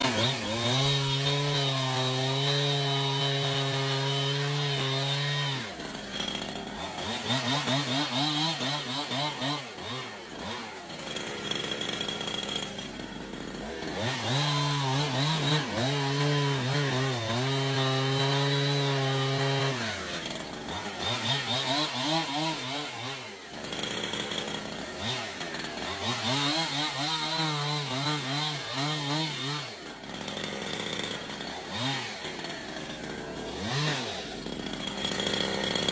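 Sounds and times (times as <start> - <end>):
chainsaw engine revving: 0.0 - 35.9.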